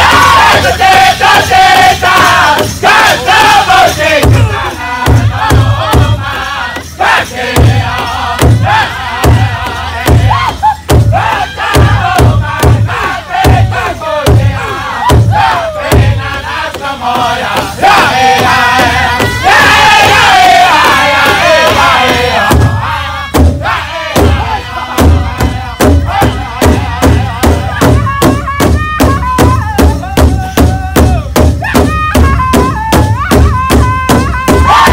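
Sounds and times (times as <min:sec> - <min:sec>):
group singing in high voices: 0:00.0 - 0:34.9
large hide drum beat: 0:00.0 - 0:34.9.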